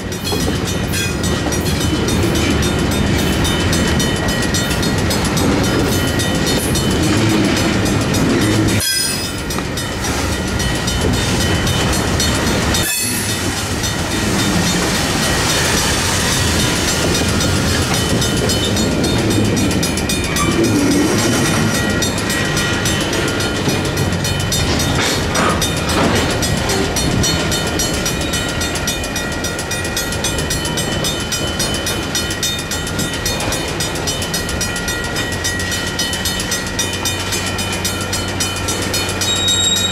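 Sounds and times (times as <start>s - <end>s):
crossing bells ringing: 0.0s - 39.9s
freight train rumbling and clacking: 0.0s - 39.9s.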